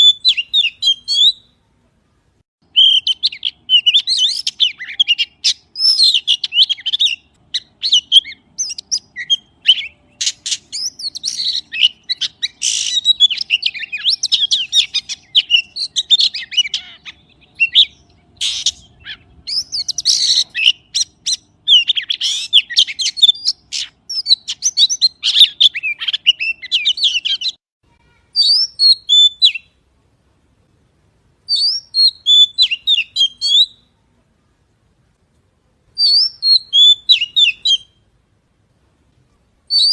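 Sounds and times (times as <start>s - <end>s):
magpie singing: 0.0s - 1.6s, 2.6s - 27.6s, 28.4s - 29.8s, 31.5s - 33.9s, 36.0s - 38.0s, 39.7s - 39.9s.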